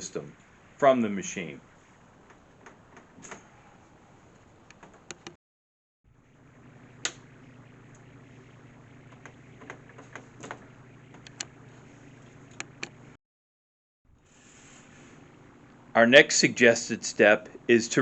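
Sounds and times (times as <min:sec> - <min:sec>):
steady low hum: 0:00.0 - 0:05.3, 0:06.1 - 0:13.2, 0:14.1 - 0:18.0.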